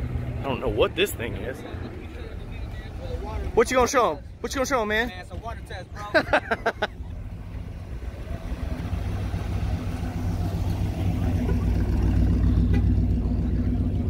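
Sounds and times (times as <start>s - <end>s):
car engine rumbling at low revs: 0.0s - 14.0s.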